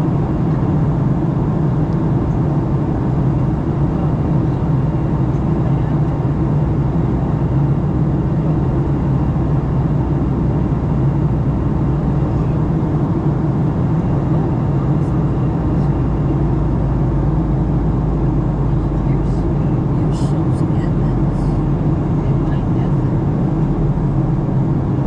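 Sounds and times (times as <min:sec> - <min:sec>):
airplane cabin engine roar: 0:00.0 - 0:25.0.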